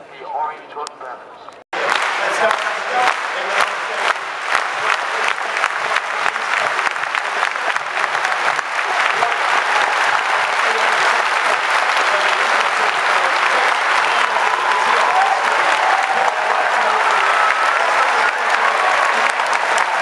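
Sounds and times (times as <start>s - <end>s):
stadium crowd applauding: 1.7s - 20.0s
sharp hand claps nearby: 1.8s - 20.0s.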